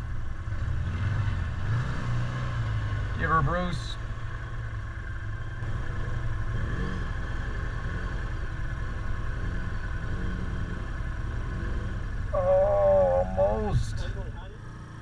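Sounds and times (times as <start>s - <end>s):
vehicle driving through mud: 0.0s - 4.0s, 5.6s - 15.0s
off-road vehicle engines rumbling: 0.0s - 15.0s.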